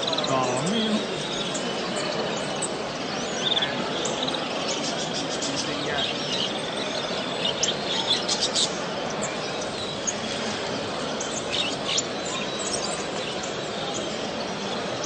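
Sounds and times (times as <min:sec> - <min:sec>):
songbirds chirping and twittering: 0:00.0 - 0:15.0
steady background din: 0:00.0 - 0:15.0.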